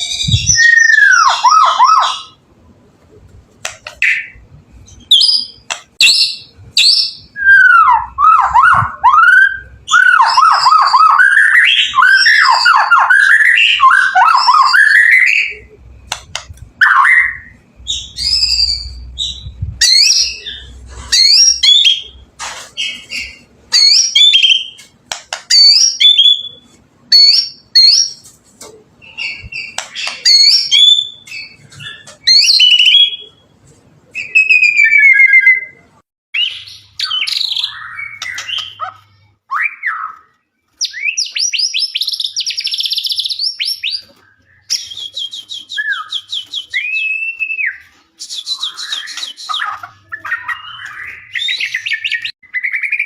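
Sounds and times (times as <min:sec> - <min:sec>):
songbird singing whistled phrases: 0:00.0 - 0:02.4, 0:04.0 - 0:16.2, 0:16.8 - 0:22.2, 0:25.5 - 0:28.2, 0:29.0 - 0:33.4, 0:34.1 - 0:35.8, 0:36.4 - 0:53.0.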